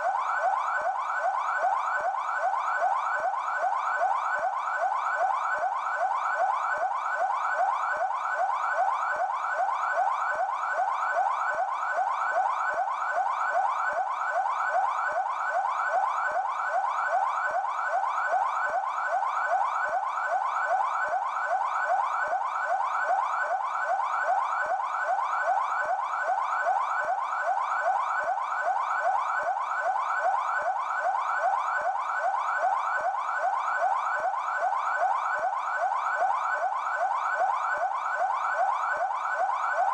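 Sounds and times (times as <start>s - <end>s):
police siren yelp wail: 0.0s - 39.9s.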